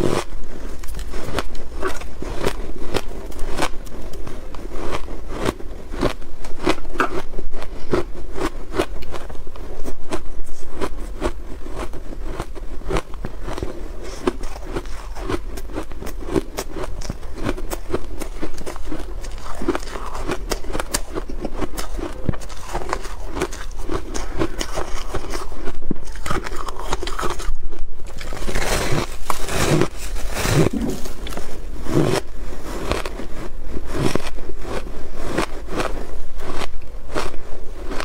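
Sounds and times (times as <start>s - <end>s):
ice crunching while chewed: 0.0s - 38.0s.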